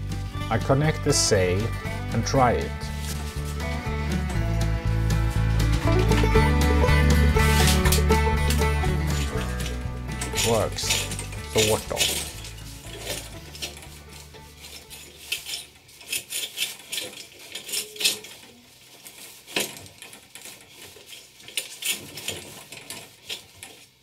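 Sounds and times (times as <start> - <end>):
metal fittings clinking: 1.2 - 24.0
rope rubbing on drum: 1.2 - 24.0
sail cloth rustling: 1.3 - 24.0.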